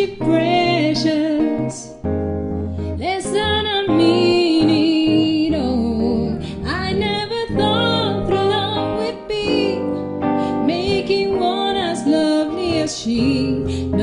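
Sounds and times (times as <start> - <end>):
woman singing jazz: 0.0 - 2.1, 2.8 - 14.0.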